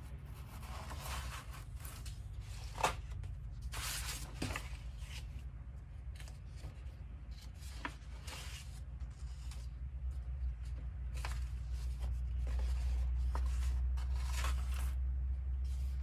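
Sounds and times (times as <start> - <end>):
low steady hum: 0.0 - 16.0
paper rustling and sliding: 0.0 - 16.0.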